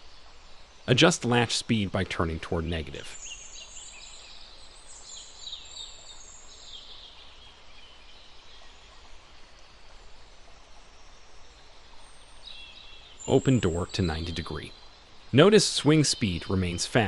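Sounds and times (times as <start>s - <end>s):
birds chirping: 0.0s - 17.0s
steady low hiss: 0.0s - 17.0s.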